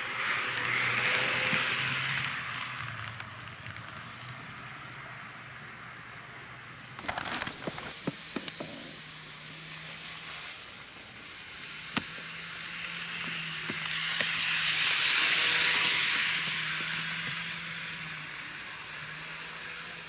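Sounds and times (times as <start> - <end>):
model train motor hum: 0.0 - 20.0
wheel-on-rail whir: 0.0 - 20.0.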